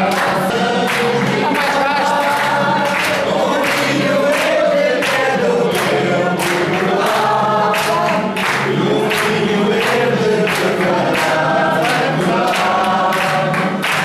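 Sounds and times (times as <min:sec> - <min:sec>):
people singing together: 0:00.0 - 0:14.0
rhythmic hand-clapping: 0:00.0 - 0:14.0.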